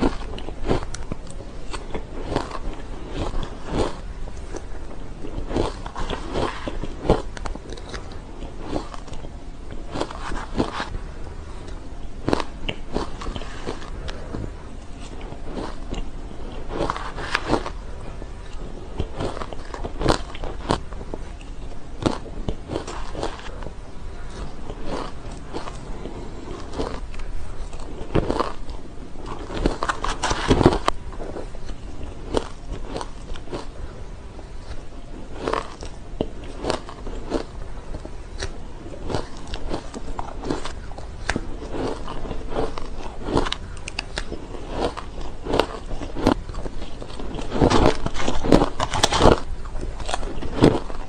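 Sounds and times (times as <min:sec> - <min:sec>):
shaved ice crunched and chewed: 0:00.0 - 0:10.9, 0:11.6 - 0:14.3, 0:15.0 - 0:33.8, 0:34.6 - 0:51.0.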